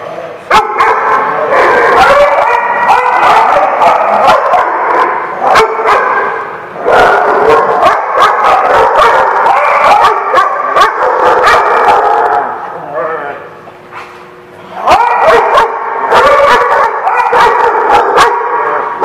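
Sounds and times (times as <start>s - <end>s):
dogs barking and yipping: 0.5s - 12.6s, 14.8s - 19.0s.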